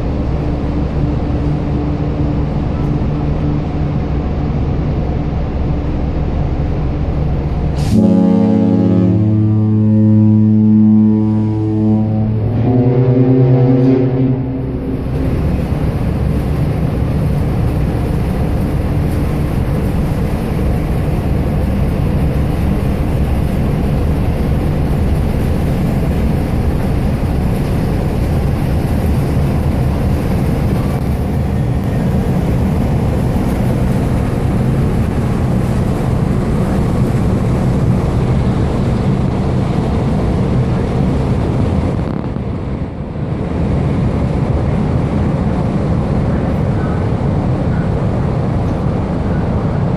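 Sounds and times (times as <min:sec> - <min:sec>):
ferry engines rumbling: 0:00.0 - 0:49.9
wind on microphone: 0:08.7 - 0:49.9.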